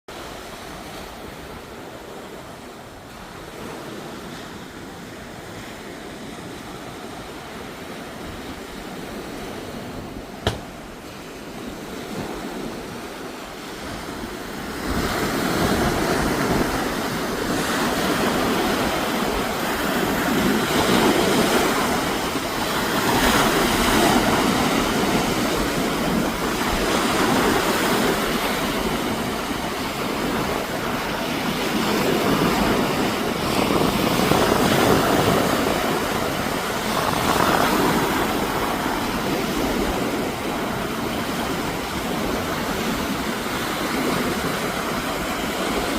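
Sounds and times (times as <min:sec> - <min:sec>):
wind buffeting microphone: 0:00.2 - 0:45.9
storm wind roaring: 0:03.4 - 0:45.9.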